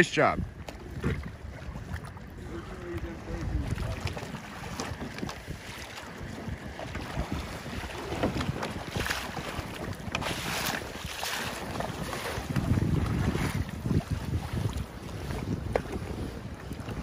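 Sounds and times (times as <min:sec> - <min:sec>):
water splashing: 0:00.0 - 0:17.0
wind buffeting microphone: 0:00.0 - 0:17.0.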